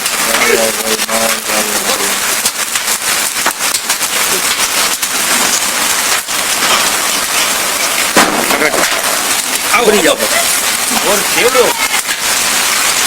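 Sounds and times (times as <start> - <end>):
hailstones hitting surfaces: 0.0 - 13.0
heavy rain hissing: 0.0 - 13.0.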